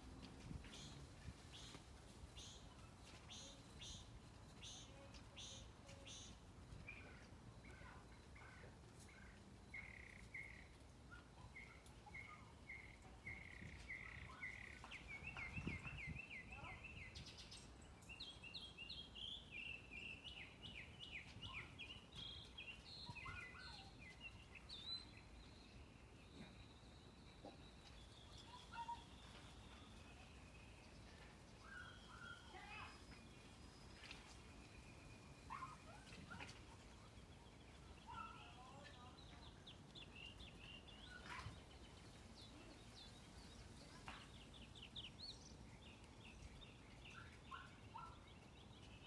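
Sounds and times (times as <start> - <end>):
low background noise: 0.0 - 49.0
songbirds singing faintly: 0.0 - 49.0.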